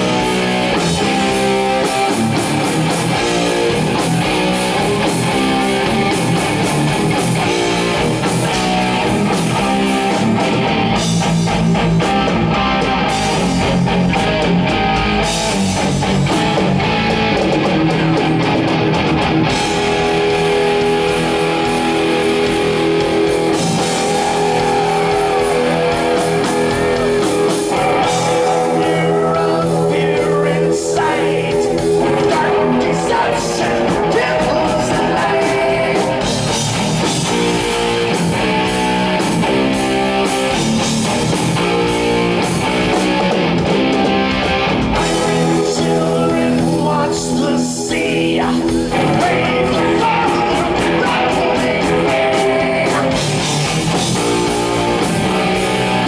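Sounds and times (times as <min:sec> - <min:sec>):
thrash metal band playing: 0:00.0 - 0:56.0.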